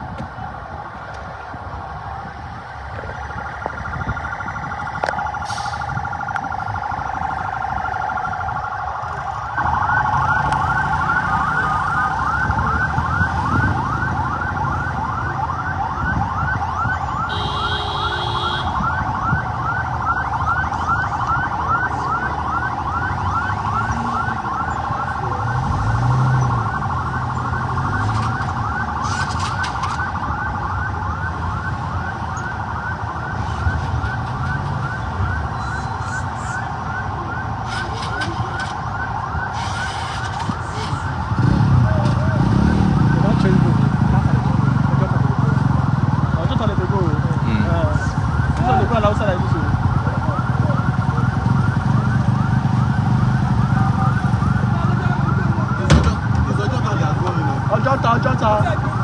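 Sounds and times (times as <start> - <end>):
police siren: 0.0 - 59.0.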